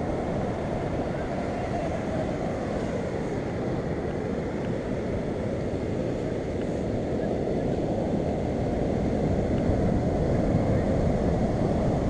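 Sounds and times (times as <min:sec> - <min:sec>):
sea surf rushing: 0:00.0 - 0:12.0
wind on microphone: 0:00.0 - 0:12.0.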